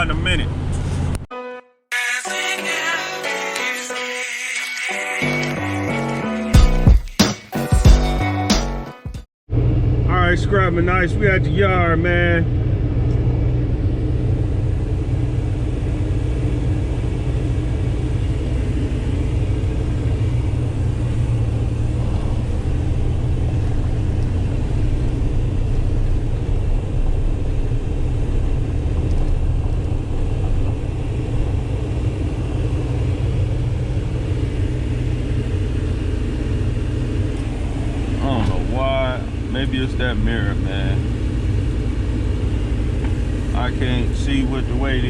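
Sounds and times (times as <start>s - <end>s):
truck engine rumbling: 0.0s - 1.3s, 9.5s - 45.0s.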